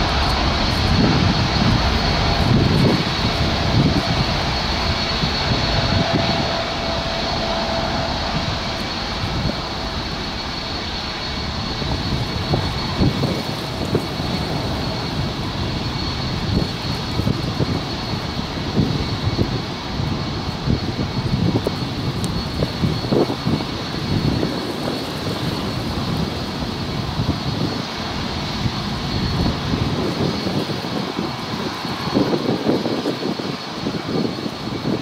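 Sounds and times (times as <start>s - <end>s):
jet engines roaring at take-off: 0.0s - 35.0s.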